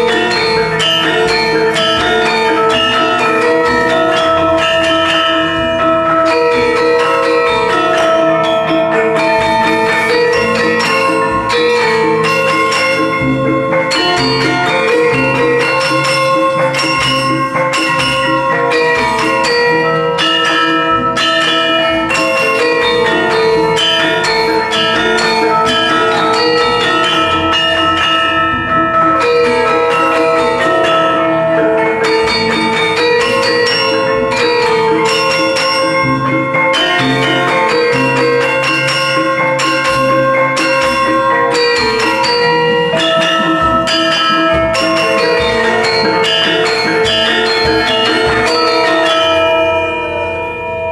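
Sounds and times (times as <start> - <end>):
gamelan ensemble playing: 0.0 - 50.9.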